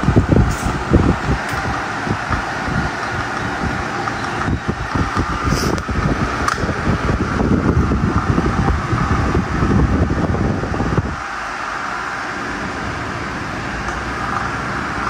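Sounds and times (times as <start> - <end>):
fan wind buffeting microphone: 0.0 - 15.0.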